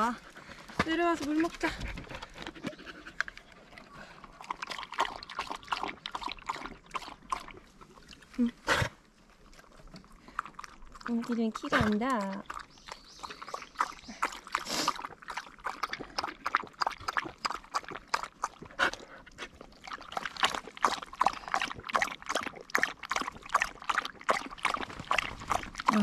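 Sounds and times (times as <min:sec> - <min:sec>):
dog lapping water: 0:00.0 - 0:26.0.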